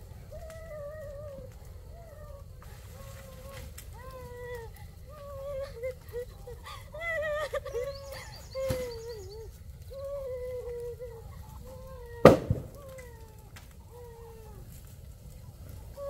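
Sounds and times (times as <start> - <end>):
chickens calling: 0.0 - 14.7.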